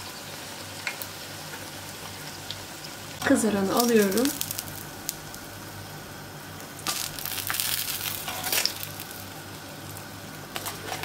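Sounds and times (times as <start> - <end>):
oil sizzling in frying pan: 0.0 - 11.0.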